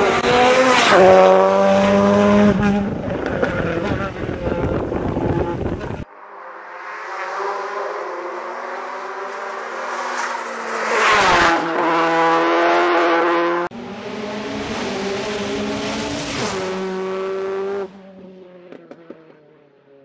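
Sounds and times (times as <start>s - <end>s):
rally car engine passing: 0.0s - 19.7s.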